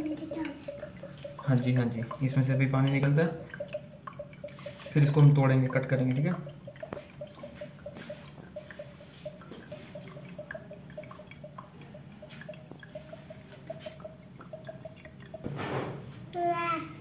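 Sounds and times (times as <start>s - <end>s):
small drips into water: 0.0s - 15.6s.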